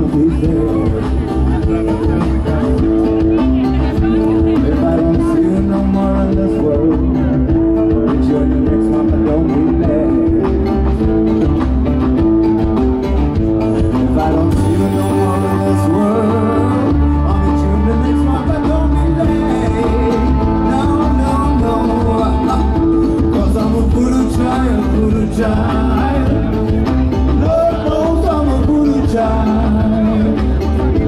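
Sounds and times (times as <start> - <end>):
person singing: 0.0 - 11.3, 13.6 - 31.0
drums and percussion: 0.0 - 31.0
heavy pulsing bass line: 0.0 - 31.0
plucked string melody: 0.0 - 31.0.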